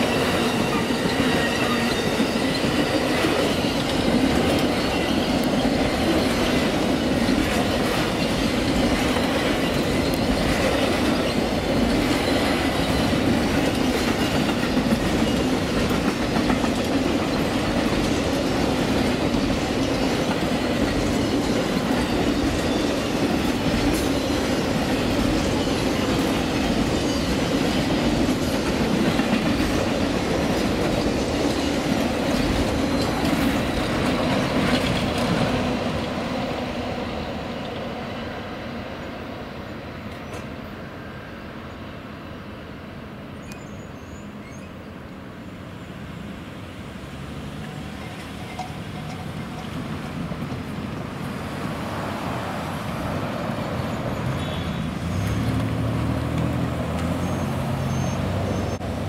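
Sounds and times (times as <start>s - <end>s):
wheels clacking over rail joints: 0.0s - 38.0s, 47.6s - 59.0s
train cars rolling past: 0.0s - 59.0s.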